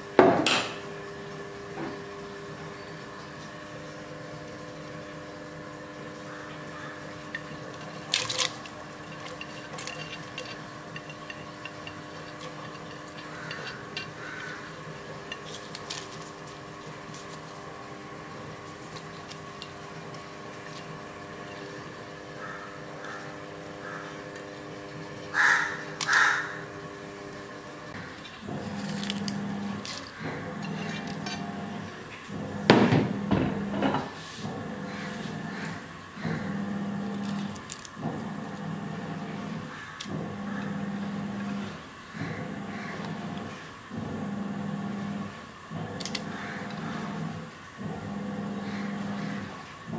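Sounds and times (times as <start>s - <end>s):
steady background hum: 0.0s - 49.9s.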